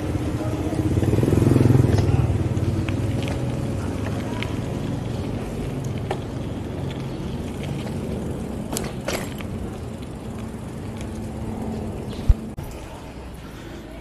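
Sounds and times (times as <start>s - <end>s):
wind and road rumble: 0.0s - 13.4s.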